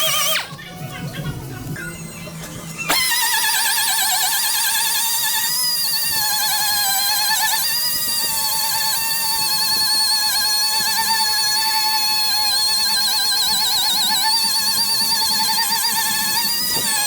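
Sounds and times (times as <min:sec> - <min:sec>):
power tool whining: 0:00.0 - 0:00.6, 0:02.8 - 0:17.0.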